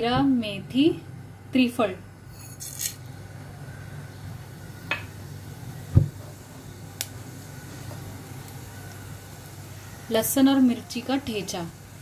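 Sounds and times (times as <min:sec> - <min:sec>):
spices hissing into oil: 0:02.2 - 0:12.0.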